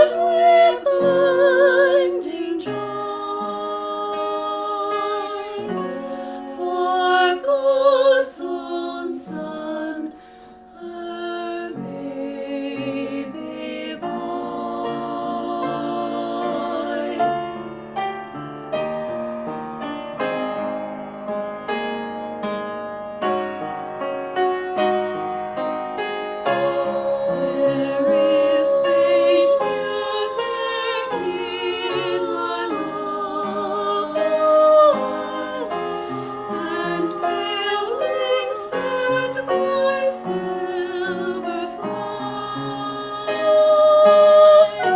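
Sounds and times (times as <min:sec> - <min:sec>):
vocal ensemble singing: 0:00.0 - 0:18.0, 0:26.4 - 0:44.9
piano chords: 0:00.0 - 0:44.9.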